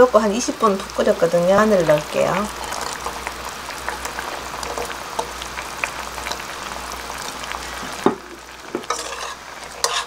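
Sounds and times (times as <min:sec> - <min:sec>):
beef bubbling and crackling: 0:00.0 - 0:10.0.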